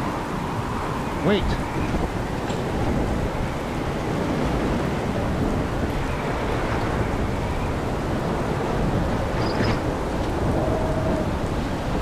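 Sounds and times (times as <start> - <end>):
heavy rain: 0.0 - 12.0
storm wind: 0.0 - 12.0.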